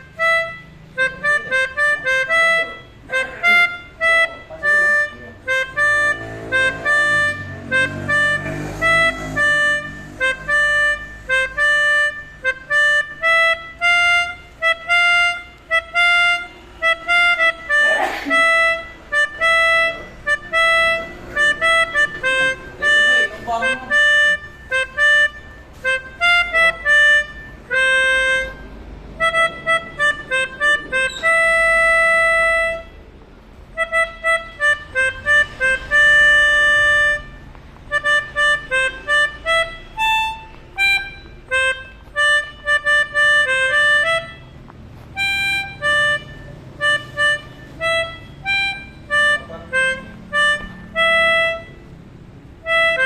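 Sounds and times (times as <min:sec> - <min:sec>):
multi-tone bus horn playing a tune: 0:00.0 - 0:44.6, 0:45.2 - 0:53.0.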